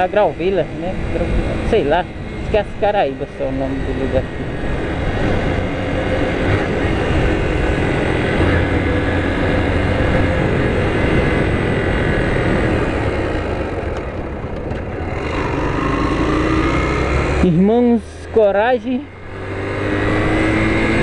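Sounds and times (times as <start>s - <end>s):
wind rush: 0.0s - 17.4s
motorcycle engine running: 0.0s - 21.0s.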